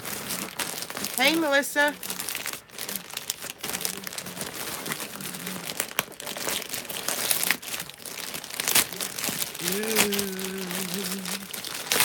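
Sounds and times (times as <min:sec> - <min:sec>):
packaging crinkling and rustling: 0:00.0 - 0:12.0
packaging tearing: 0:00.0 - 0:12.0.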